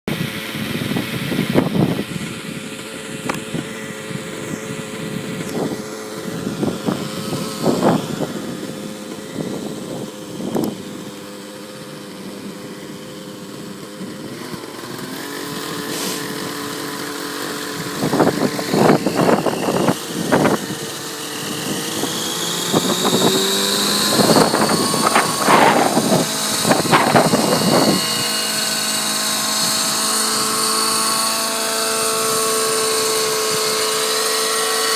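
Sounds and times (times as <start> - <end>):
wind buffeting microphone: 0.1 - 30.7
model helicopter engine and rotor: 0.1 - 34.9.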